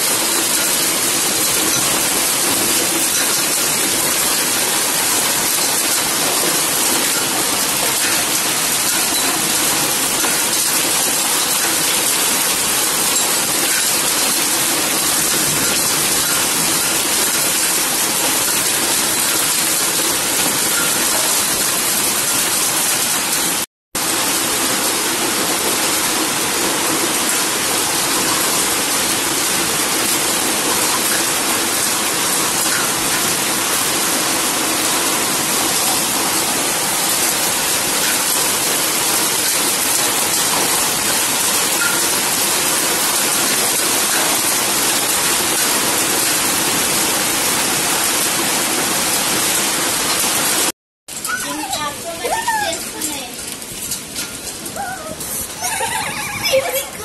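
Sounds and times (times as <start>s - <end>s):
hail and heavy rain pelting: 0.0s - 57.0s.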